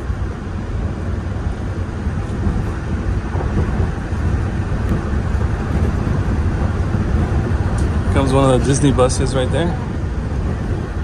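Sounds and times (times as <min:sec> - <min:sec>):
monorail train rumbling: 0:00.0 - 0:11.0.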